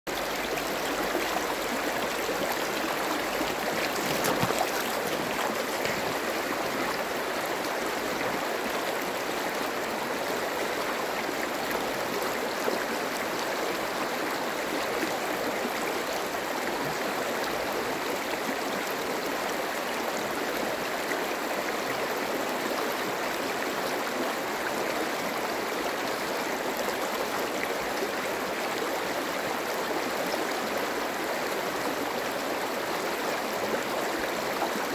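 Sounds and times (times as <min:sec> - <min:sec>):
stream flowing over pebbles: 0:00.1 - 0:34.9.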